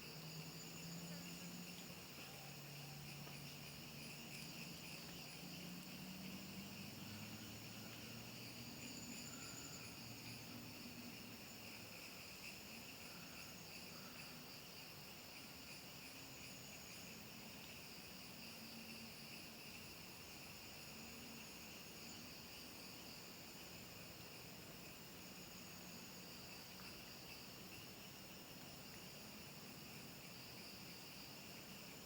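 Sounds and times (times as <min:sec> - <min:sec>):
crickets and insects trilling: 0:00.0 - 0:32.0.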